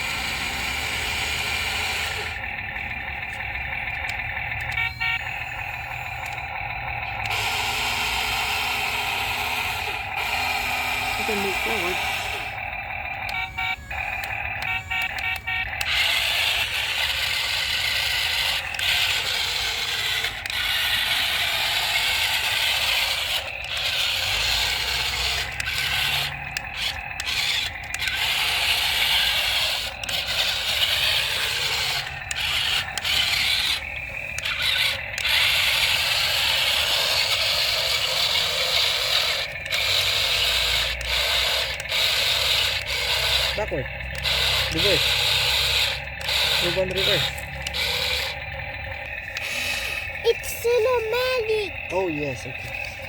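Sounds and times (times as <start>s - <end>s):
toy gear motors whirring: 0.0s - 53.0s.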